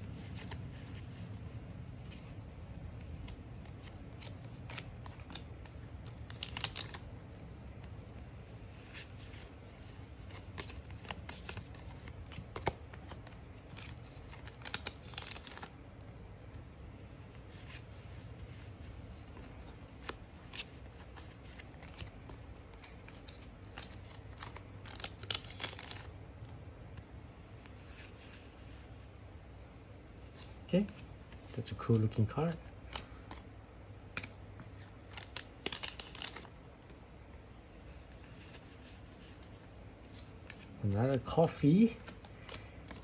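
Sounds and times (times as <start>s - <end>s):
trading cards being handled: 0.0s - 29.1s, 30.2s - 43.0s.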